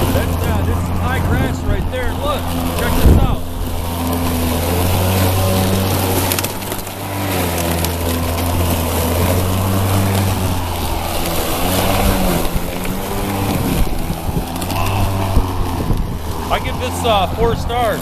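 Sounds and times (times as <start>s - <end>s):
electric lawn mower running: 0.0s - 18.0s.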